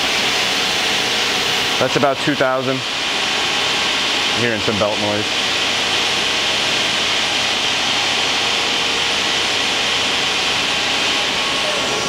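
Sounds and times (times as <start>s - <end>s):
lathe spindle whirring: 0.0s - 12.0s
spindle drive belt noise: 0.0s - 12.0s.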